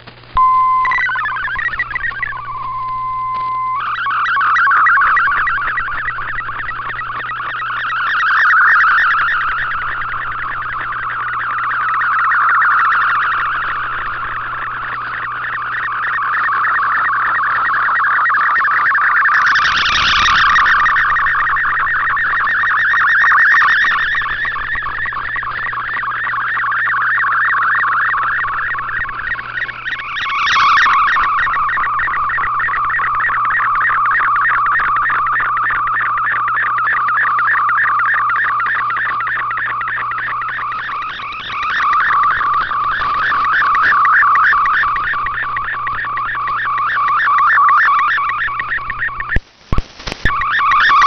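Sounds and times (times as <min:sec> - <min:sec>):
noisy burst: 0:00.0 - 0:51.0
warbling digital data signal: 0:00.4 - 0:51.0.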